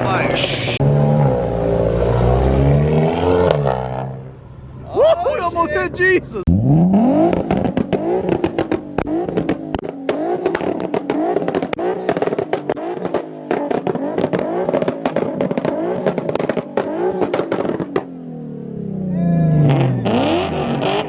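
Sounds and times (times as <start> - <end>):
car engine revving: 0.0 - 4.6, 6.4 - 21.0.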